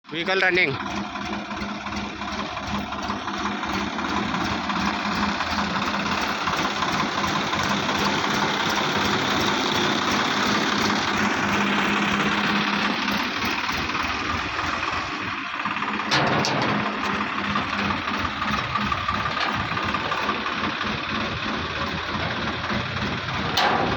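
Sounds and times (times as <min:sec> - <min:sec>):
tractor diesel engine idling: 0:00.0 - 0:23.9.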